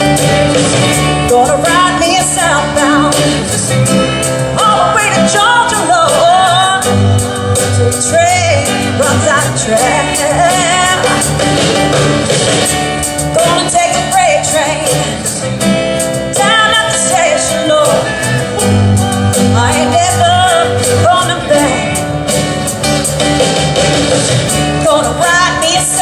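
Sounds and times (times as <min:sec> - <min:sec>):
person singing: 0:00.0 - 0:11.8, 0:13.2 - 0:15.6, 0:16.3 - 0:22.2, 0:24.7 - 0:26.0
live country rock band: 0:00.0 - 0:26.0.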